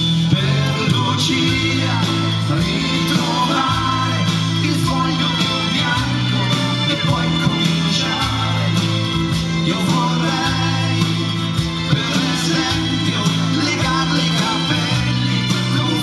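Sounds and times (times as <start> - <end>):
live pop-rock band playing: 0.0 - 16.0
man singing into a microphone: 0.0 - 16.0.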